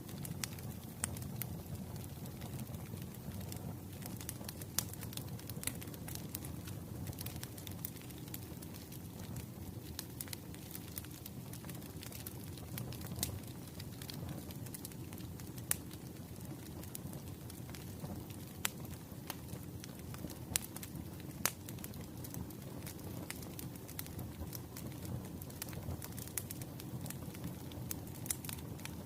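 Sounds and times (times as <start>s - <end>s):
burning logs crackling and popping: 0.0s - 29.0s
fire flames rumbling: 0.0s - 29.0s.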